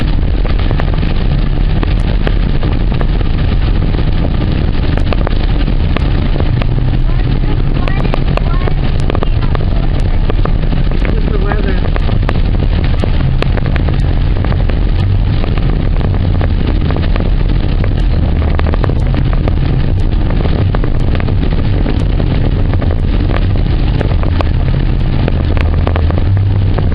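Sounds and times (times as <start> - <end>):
rain on car windshield and roof: 0.0 - 26.9
road and engine drone: 0.0 - 26.9
raindrops ticking on glass: 0.3 - 26.9.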